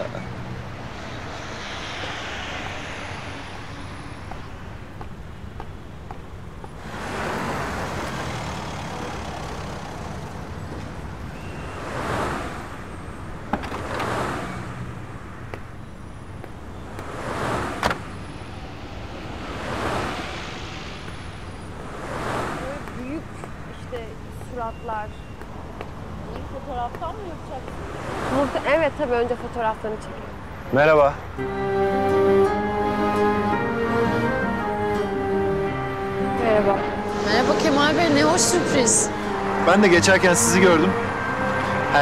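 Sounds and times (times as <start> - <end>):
cars passing: 0.0 - 42.0.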